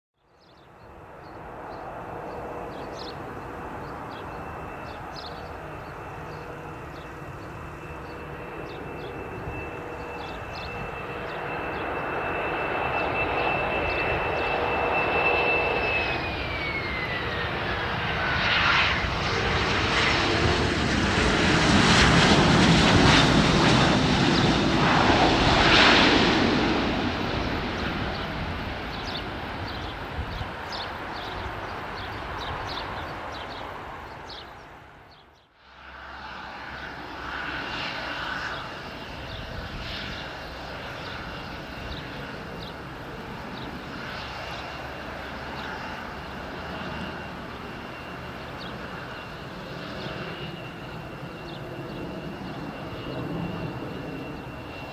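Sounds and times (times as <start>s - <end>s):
jet engine rush: 1.0s - 54.9s.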